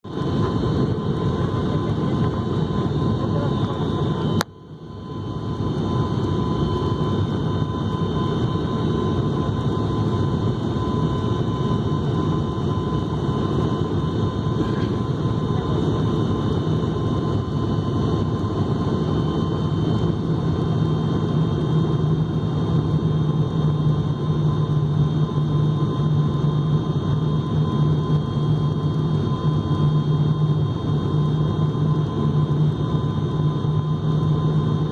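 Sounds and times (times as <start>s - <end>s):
airplane engines droning: 0.0s - 34.9s.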